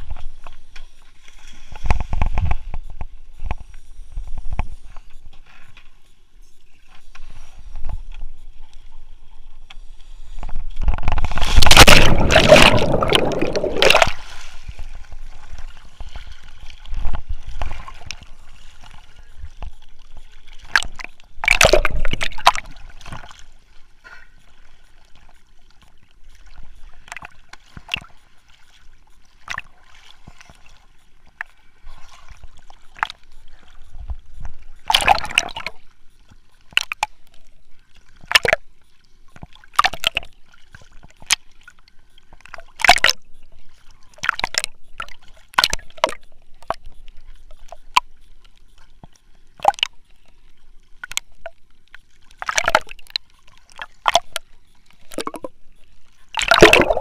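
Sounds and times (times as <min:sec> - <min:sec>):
sea water sloshing and splashing: 0:07.1 - 0:57.0.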